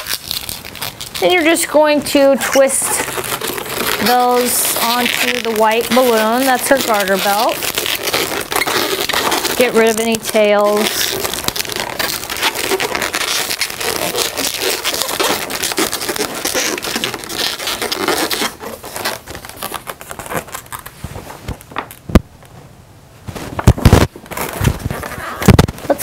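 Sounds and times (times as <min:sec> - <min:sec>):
balloons squeaking: 0:00.0 - 0:22.4, 0:23.4 - 0:26.0.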